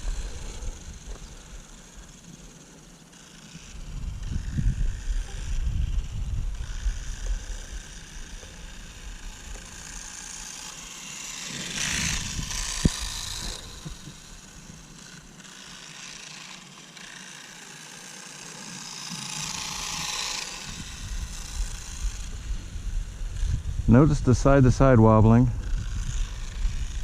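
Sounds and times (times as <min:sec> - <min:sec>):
electric motor whirring: 0:00.0 - 0:27.0.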